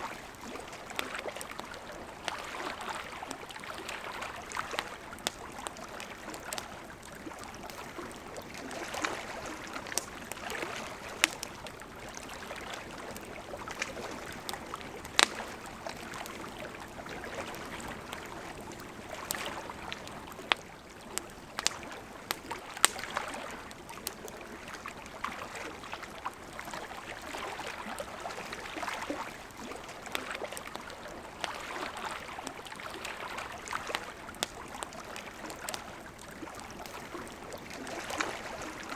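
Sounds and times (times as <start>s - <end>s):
campfire wood crackling and popping: 0.0s - 38.9s
river flowing: 0.0s - 38.9s.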